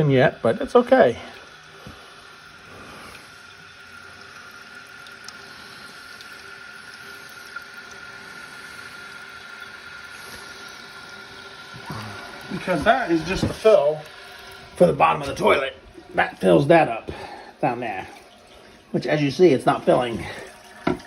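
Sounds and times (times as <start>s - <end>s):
toilet fill valve hissing: 0.0s - 21.0s.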